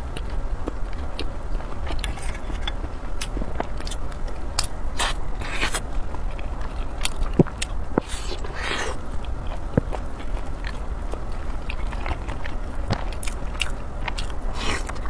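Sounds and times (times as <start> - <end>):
biting and chewing: 0.0 - 15.0
steady low hum: 0.0 - 15.0.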